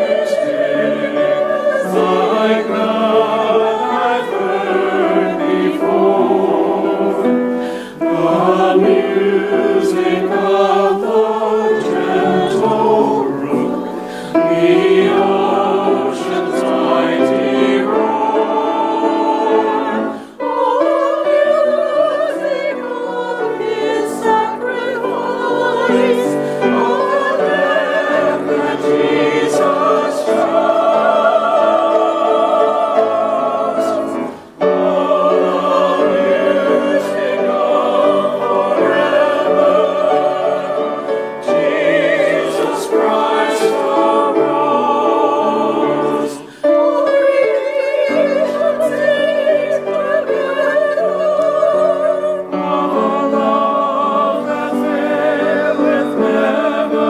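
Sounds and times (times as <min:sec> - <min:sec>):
choir singing with vibrato: 0:00.0 - 0:57.0.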